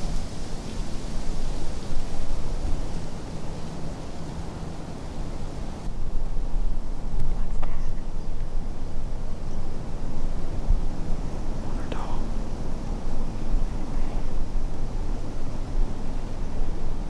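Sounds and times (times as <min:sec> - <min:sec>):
faint steady hum: 0:00.0 - 0:17.0
wind buffeting microphone: 0:00.0 - 0:17.0.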